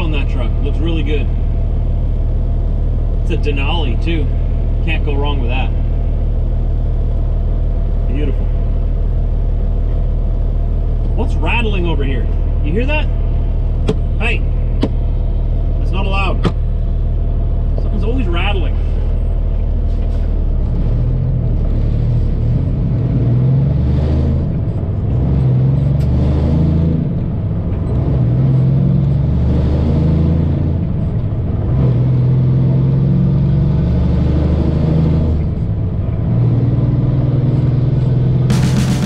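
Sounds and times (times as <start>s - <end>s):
truck diesel engine accelerating: 0.0s - 39.0s.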